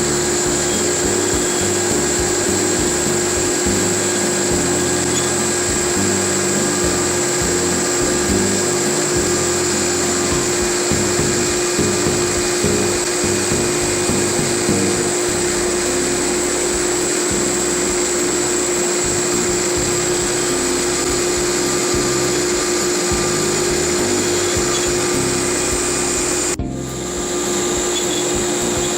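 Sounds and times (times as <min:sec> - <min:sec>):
router spindle carving wood: 0:00.0 - 0:28.9.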